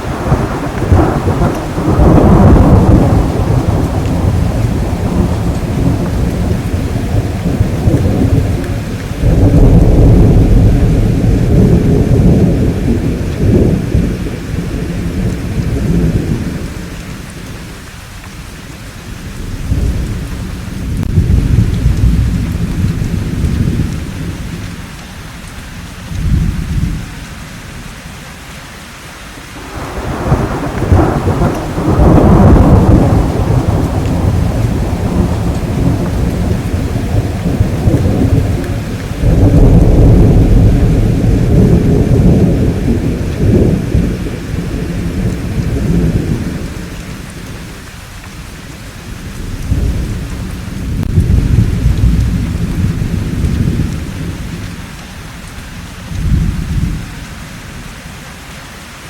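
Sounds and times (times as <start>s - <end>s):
rolling thunder: 0.0s - 17.7s, 19.1s - 24.9s, 25.8s - 27.1s, 29.5s - 55.0s, 55.8s - 57.1s
steady rain: 0.0s - 59.0s.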